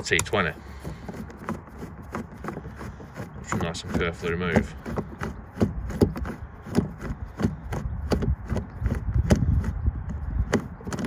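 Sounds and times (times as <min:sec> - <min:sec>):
rubbing and handling noise: 0:00.0 - 0:11.0.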